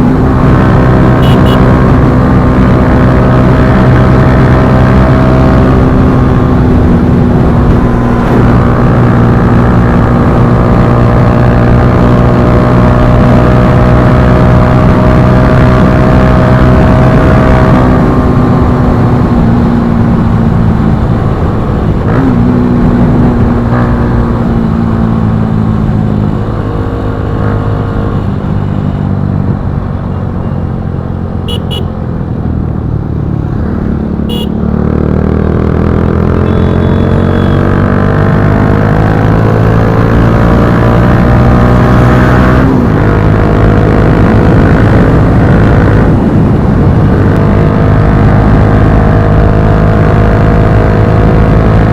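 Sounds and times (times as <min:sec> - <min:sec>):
motorcycle engine: 0:00.0 - 0:51.9.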